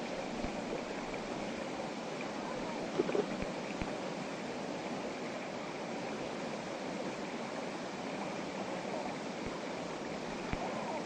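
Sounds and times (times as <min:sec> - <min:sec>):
river flowing over rocks: 0:00.0 - 0:11.0.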